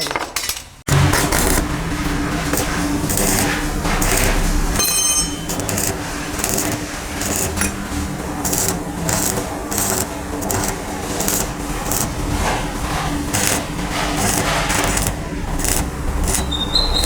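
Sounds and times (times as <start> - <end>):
steady hum: 0.9 - 17.0
welding arc crackling: 0.9 - 17.0.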